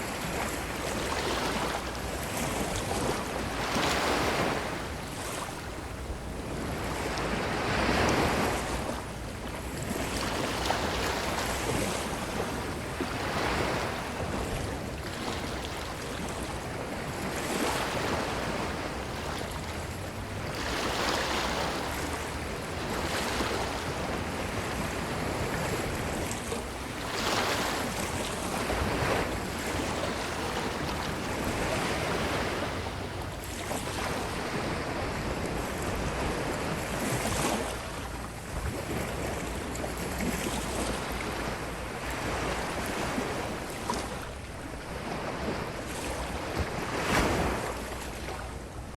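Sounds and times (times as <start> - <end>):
ocean waves breaking on shore: 0.0 - 49.0.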